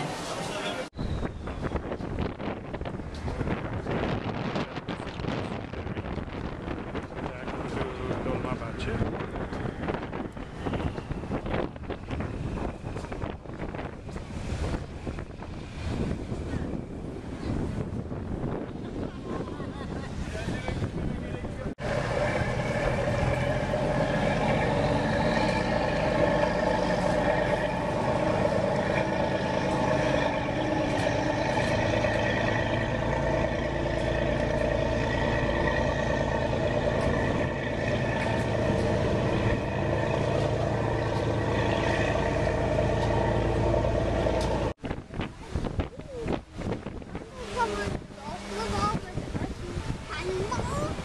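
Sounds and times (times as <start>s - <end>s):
boat engine humming: 0.0s - 51.0s.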